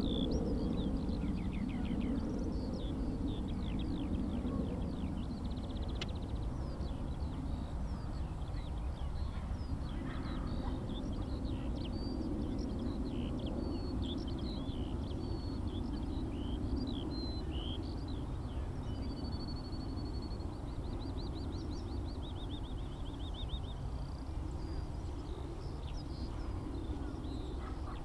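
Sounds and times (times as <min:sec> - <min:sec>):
skylark singing: 0:00.0 - 0:28.0
steady low rumble: 0:00.0 - 0:28.0.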